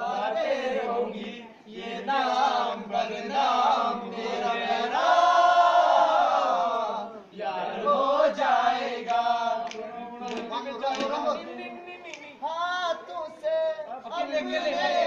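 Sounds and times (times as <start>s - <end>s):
men singing a cappella: 0.0s - 12.2s, 14.1s - 15.0s.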